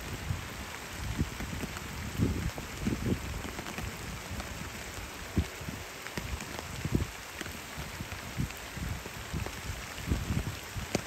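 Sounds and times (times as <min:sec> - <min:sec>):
rain falling on pond: 0:00.0 - 0:11.0.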